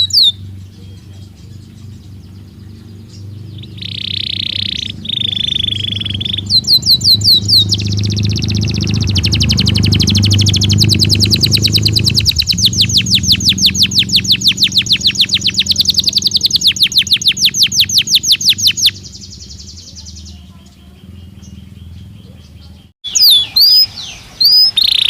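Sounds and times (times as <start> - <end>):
low steady hum: 0.0 - 23.0
canary singing trills: 0.0 - 25.0.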